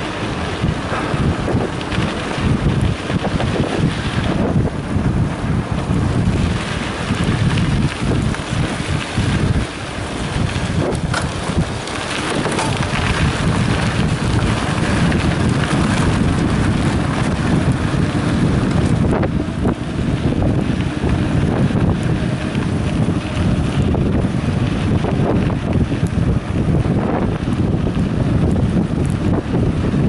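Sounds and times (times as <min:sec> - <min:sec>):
bike knocks and rattles: 0:00.0 - 0:30.0
tyres crunching over gravel: 0:00.0 - 0:30.0
wind buffeting microphone: 0:00.0 - 0:30.0.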